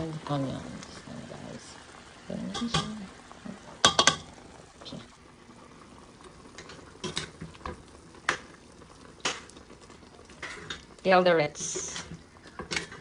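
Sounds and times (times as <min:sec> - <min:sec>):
faint simmer: 0:00.0 - 0:13.0.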